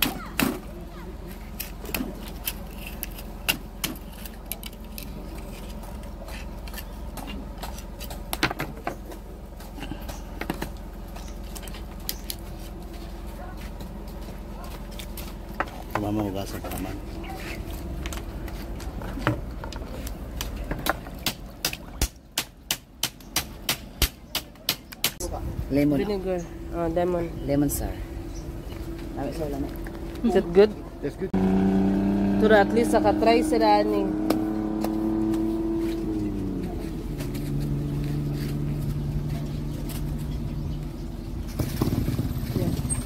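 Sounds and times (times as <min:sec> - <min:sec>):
engine running: 0:00.0 - 0:22.1, 0:25.2 - 0:43.0.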